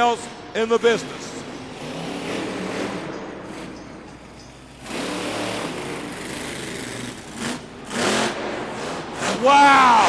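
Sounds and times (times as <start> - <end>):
monster truck engine revving: 1.0 - 10.0.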